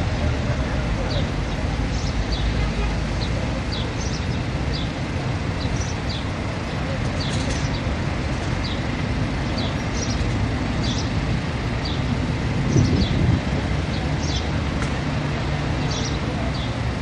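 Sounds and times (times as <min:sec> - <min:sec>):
low traffic rumble: 0:00.0 - 0:17.0
small birds chirping: 0:01.0 - 0:11.2, 0:11.8 - 0:14.6, 0:15.6 - 0:16.9.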